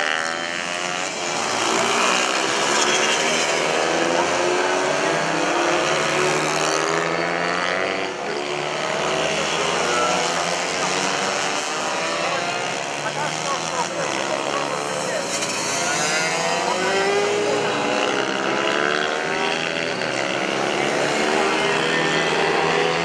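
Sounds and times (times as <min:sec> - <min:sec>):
mini-bike engines revving: 0:00.0 - 0:23.0.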